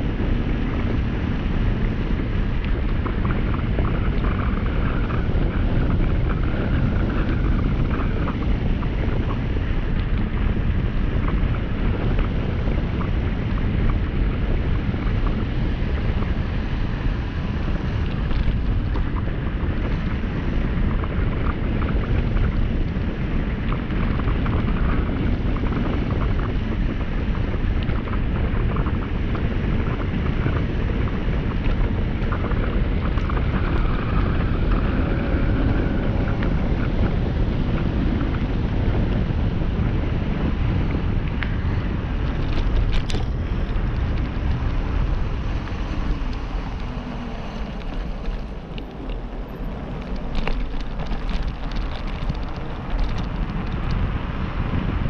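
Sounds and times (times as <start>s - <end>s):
wheels rolling on asphalt: 0.0s - 55.0s
wind buffeting microphone: 0.0s - 55.0s.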